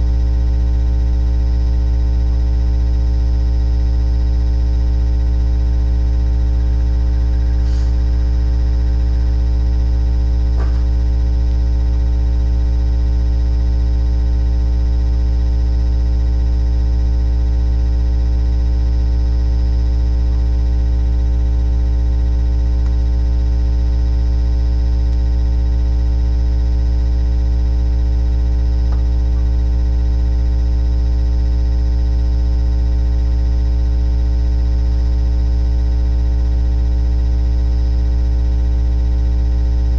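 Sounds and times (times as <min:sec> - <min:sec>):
loud steady low hum: 0:00.0 - 0:39.9.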